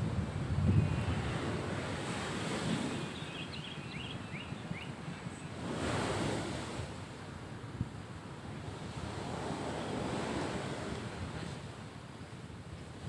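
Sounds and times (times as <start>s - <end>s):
surf washing on shore: 0.0s - 13.0s
wind buffeting microphone: 0.0s - 13.0s.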